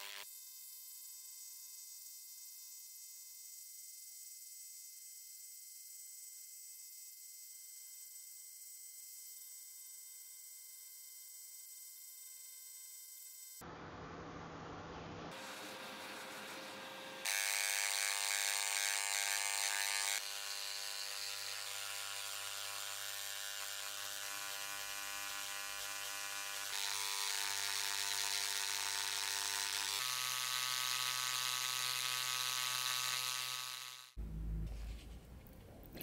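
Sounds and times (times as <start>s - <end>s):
electric engraver buzzing on metal: 0.0s - 13.7s, 15.3s - 34.2s.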